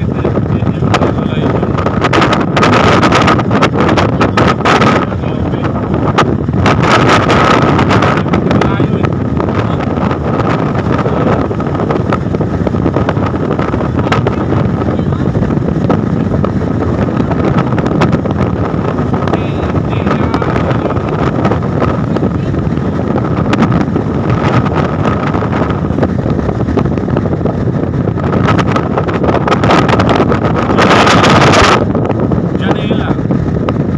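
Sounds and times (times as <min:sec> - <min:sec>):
steady high whine: 0:00.0 - 0:33.9
vehicle road noise at speed: 0:00.0 - 0:33.9
wind buffeting microphone: 0:00.0 - 0:33.9.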